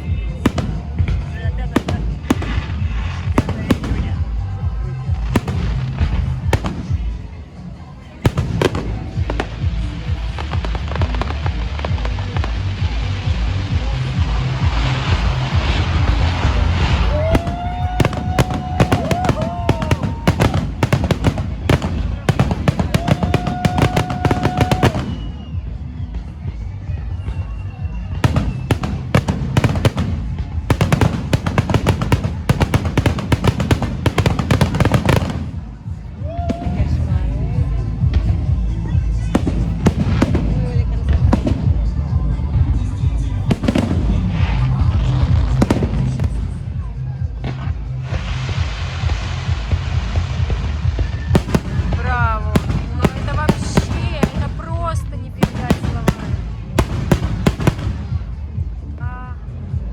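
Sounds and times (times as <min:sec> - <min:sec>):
fireworks bangs: 0:00.0 - 0:58.8
fireworks crackling: 0:00.0 - 0:59.8
loud background music: 0:00.0 - 0:59.9.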